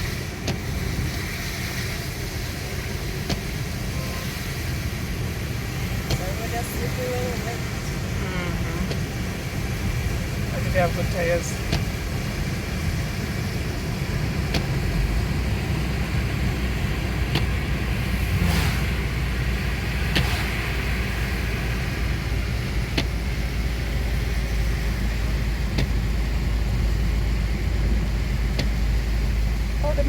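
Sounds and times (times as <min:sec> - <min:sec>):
road and engine rumble: 0:00.0 - 0:30.0.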